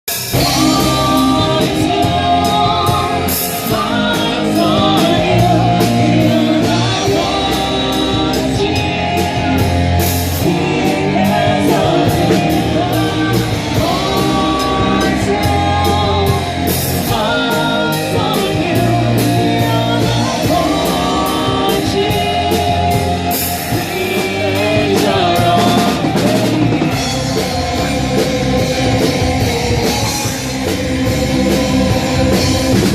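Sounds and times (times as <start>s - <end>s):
rock band playing: 0.0s - 32.9s
person singing: 0.1s - 32.9s.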